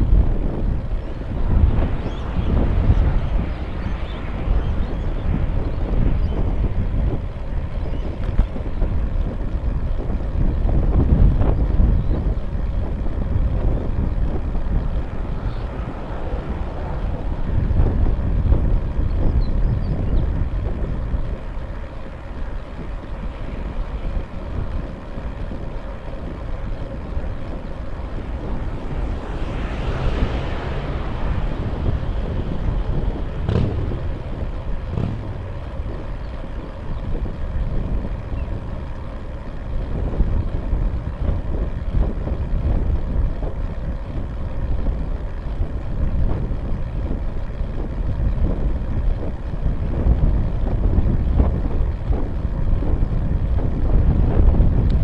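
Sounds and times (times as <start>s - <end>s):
low road rumble: 0.0s - 55.0s
wind rushing over microphone: 0.0s - 55.0s.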